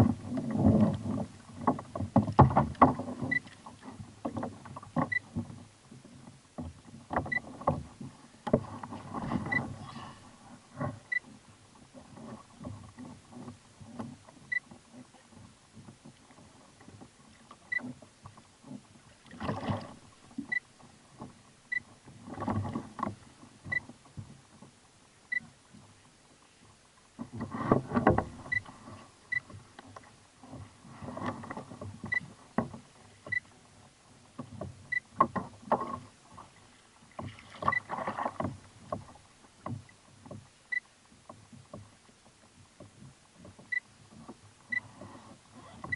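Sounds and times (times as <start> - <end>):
fish knocking and splashing in kayak: 0.0 - 25.9, 27.1 - 40.6.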